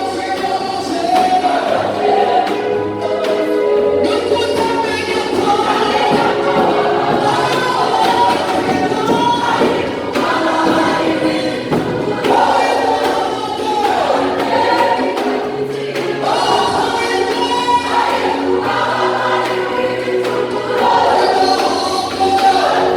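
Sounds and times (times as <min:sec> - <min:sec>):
choir singing gospel song: 0:00.0 - 0:22.9
instrumental accompaniment with beat: 0:00.0 - 0:22.9.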